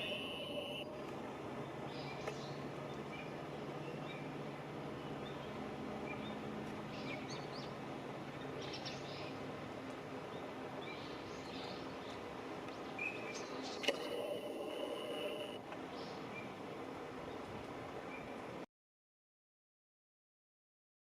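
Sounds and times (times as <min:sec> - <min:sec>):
songbirds chirping: 0:00.0 - 0:18.6
steady background hiss: 0:00.0 - 0:18.6.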